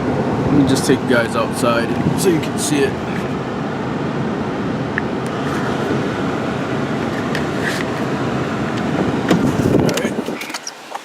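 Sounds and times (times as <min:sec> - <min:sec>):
car engine idling: 0:00.0 - 0:11.0
car heater blower rushing: 0:00.0 - 0:11.0.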